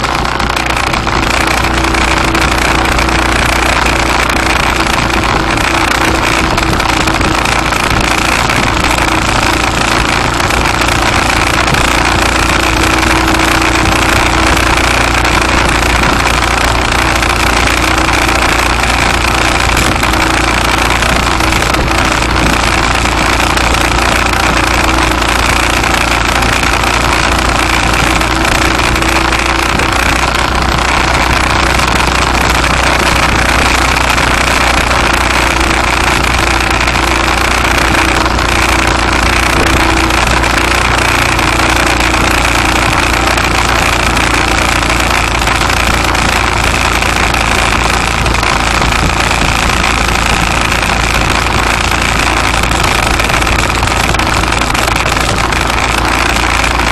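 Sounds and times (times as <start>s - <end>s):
road noise: 0.0s - 56.9s
vehicle engine: 0.0s - 56.9s.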